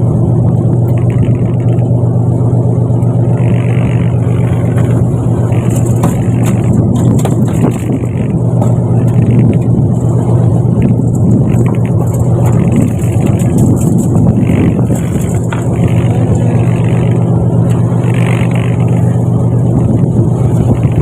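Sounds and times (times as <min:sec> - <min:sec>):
boat engine low drone: 0:00.0 - 0:21.0.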